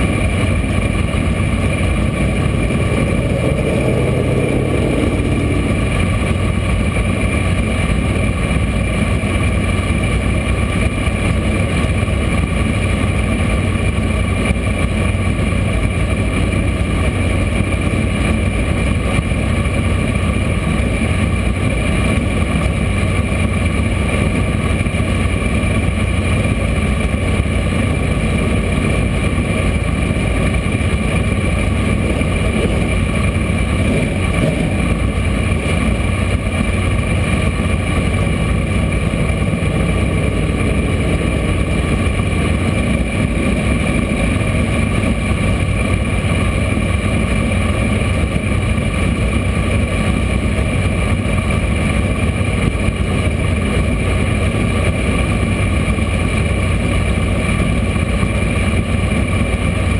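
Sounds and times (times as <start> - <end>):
race car engine idling: 0.0 - 59.9.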